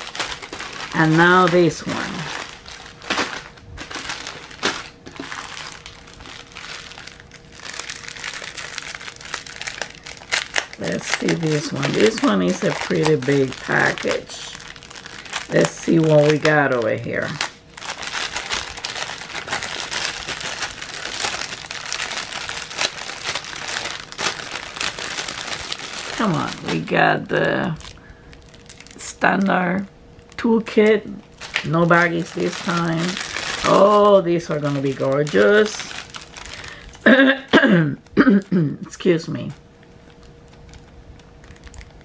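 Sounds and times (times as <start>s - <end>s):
plastic packaging crinkling: 0.0s - 38.5s, 39.3s - 42.0s.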